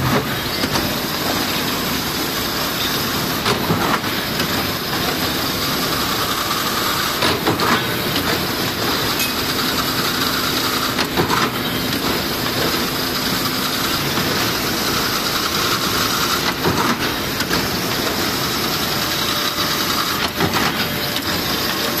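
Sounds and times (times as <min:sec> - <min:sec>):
weaving machine clattering: 0:00.0 - 0:22.0.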